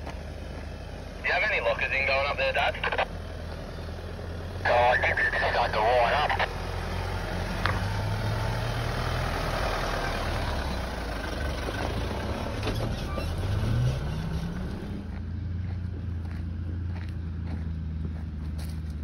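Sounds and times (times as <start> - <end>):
vehicle engine climbing a hill: 0.0 - 19.0.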